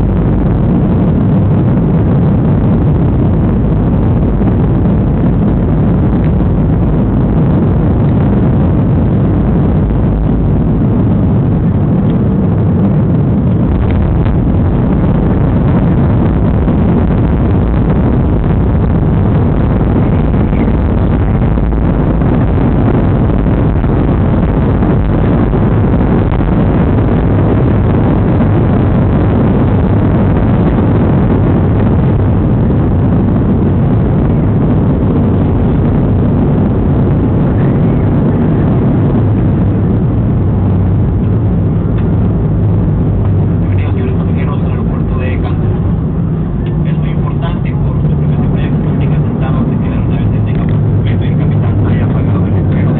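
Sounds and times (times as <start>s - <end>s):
airplane engines rumbling in flight: 0.0s - 52.9s.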